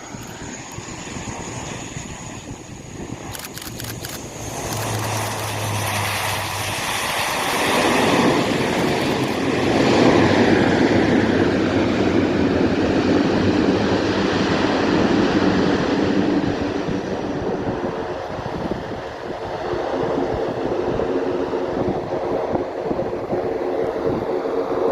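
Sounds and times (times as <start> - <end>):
turboprop aircraft passing: 0.0 - 24.9.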